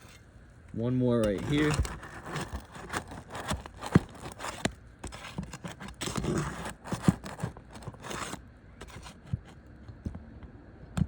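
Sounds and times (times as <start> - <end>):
pry bar scraping: 0.0 - 9.6.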